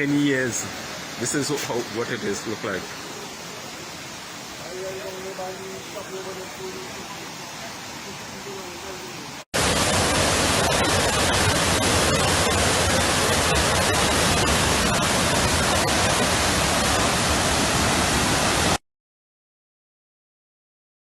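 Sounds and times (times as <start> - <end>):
floodwater rushing: 0.0 - 18.8.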